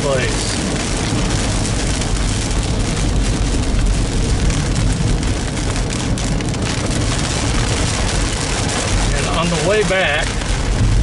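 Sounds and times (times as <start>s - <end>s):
car road rumble: 0.0s - 11.0s
tyre and rain hiss: 0.0s - 11.0s.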